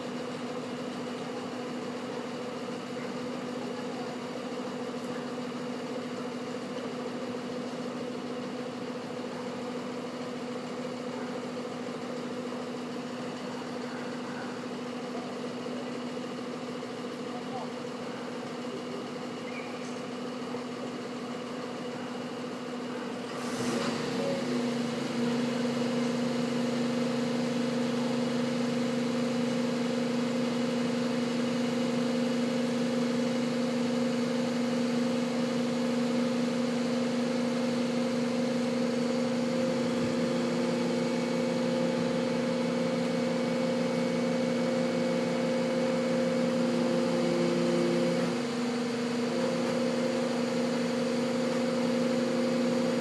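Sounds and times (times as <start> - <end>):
truck engine humming: 0.0 - 53.0.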